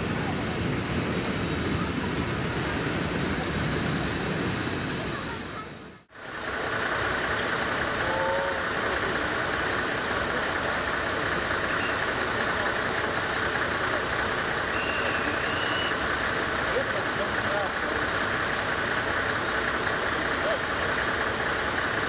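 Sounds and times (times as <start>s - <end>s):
distant diesel locomotive idling: 0.0s - 22.0s.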